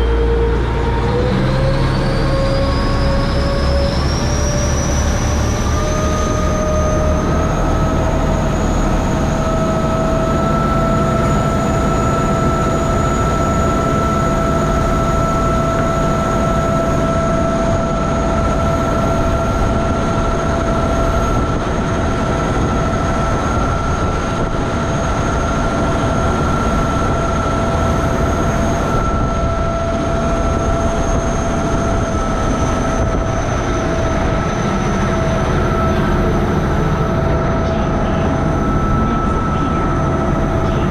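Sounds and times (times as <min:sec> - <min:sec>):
boat engine rumble and whine: 0:00.0 - 0:40.9.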